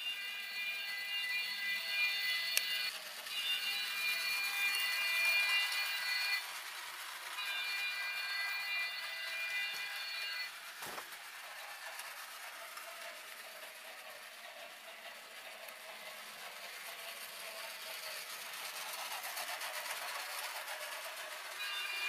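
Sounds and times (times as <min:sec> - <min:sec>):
toy train whirring rattle: 0:00.0 - 0:22.0.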